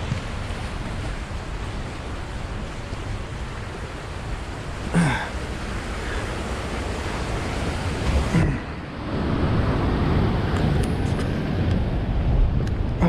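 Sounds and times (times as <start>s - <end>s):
wind on microphone: 0.0s - 4.8s, 5.5s - 13.0s
ocean surf rushing: 0.0s - 13.0s.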